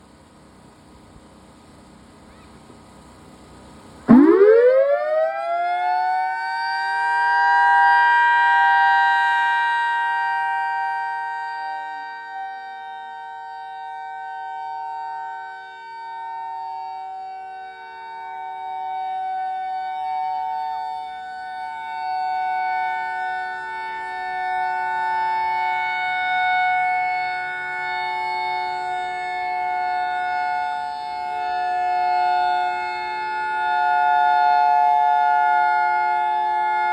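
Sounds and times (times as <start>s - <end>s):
warning siren winding up: 4.1s - 36.9s.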